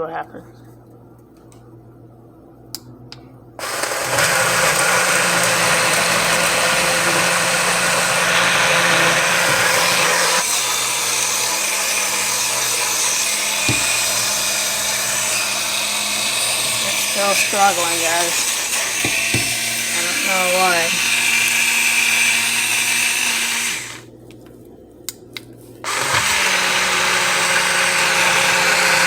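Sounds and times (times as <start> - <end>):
blender straining on frozen fruit: 3.6 - 24.0, 25.9 - 29.0.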